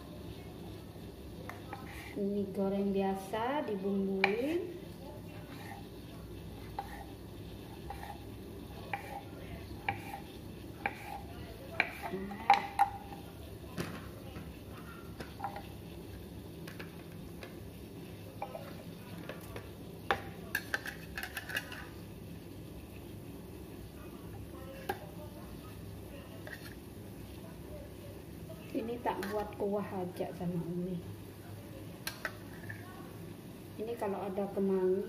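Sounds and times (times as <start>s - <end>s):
low background noise: 0.0s - 35.0s.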